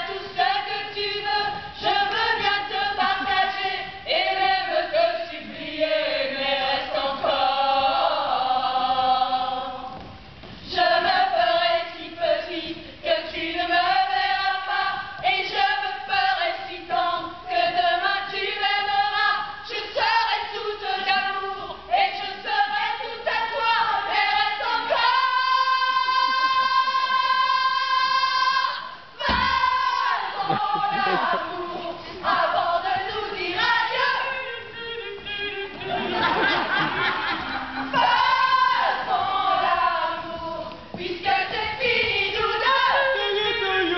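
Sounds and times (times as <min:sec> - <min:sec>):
women singing together: 0:00.0 - 0:43.9.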